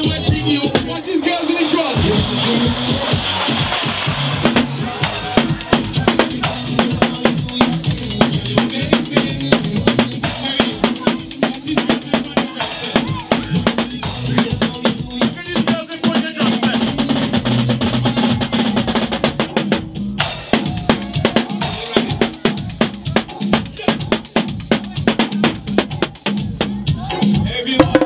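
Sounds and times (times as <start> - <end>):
backing music: 0.0 - 28.0
drum kit played fast: 0.0 - 28.0.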